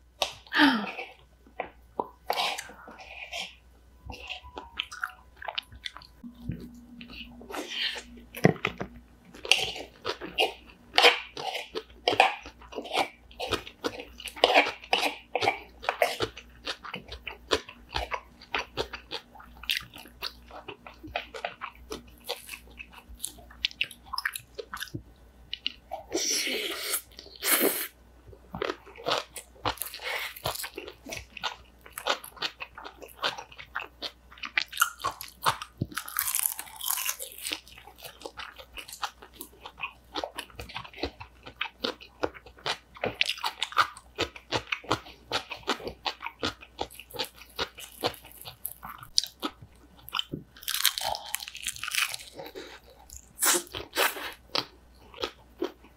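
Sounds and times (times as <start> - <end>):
crunchy chewing: 1.0 - 26.2, 28.5 - 55.9.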